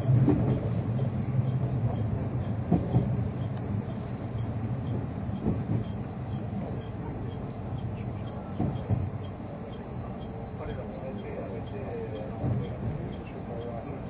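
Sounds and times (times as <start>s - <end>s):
faint high ticking: 0.0s - 14.0s
train low hum: 0.0s - 14.0s.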